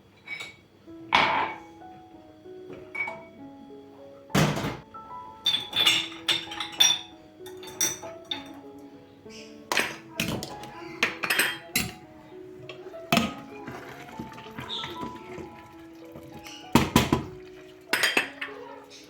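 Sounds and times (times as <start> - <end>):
dishes and utensils clinking: 0.2 - 1.8, 2.7 - 3.4, 4.3 - 19.0
soft background music: 0.2 - 19.0.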